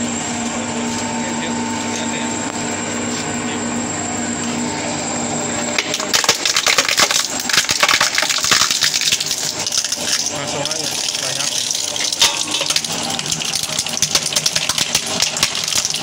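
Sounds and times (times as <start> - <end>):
shredder humming: 0.0 - 16.0.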